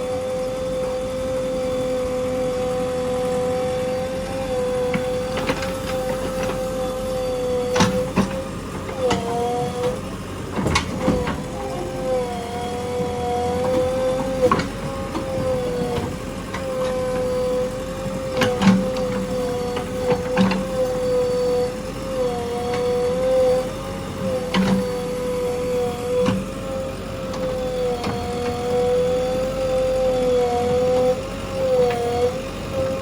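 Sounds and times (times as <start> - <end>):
backhoe engine whine: 0.0 - 33.0.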